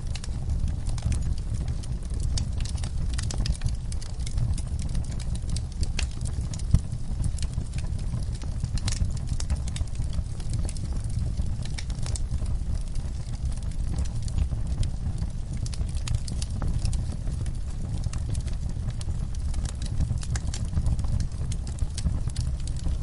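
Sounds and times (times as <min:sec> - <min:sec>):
fire flames rumbling: 0:00.0 - 0:23.0
logs crackling and popping: 0:00.0 - 0:23.0.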